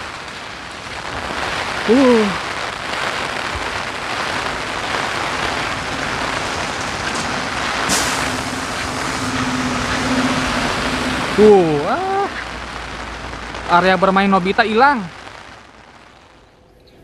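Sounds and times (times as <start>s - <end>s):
heavy rain on pavement: 0.0s - 16.6s.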